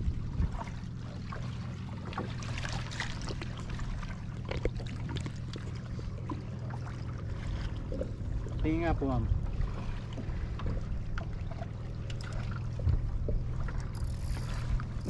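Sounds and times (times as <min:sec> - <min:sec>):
steady low rumble: 0:00.0 - 0:15.0
water splashing and trickling: 0:00.0 - 0:15.0.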